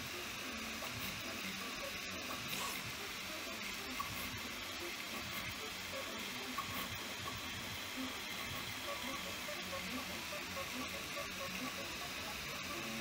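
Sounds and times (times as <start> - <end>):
fan hiss: 0.0 - 13.0.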